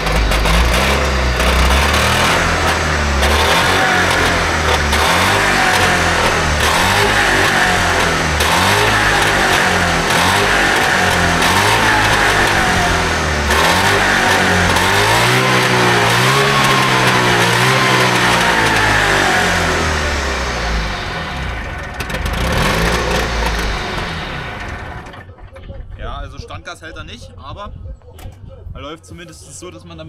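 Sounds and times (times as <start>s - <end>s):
two-stroke engine revving: 0.0s - 25.5s.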